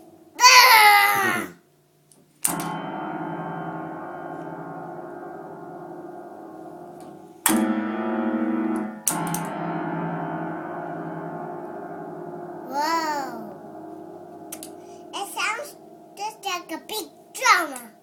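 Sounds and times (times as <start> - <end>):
piano keys banged in clusters: 2.4 - 18.0.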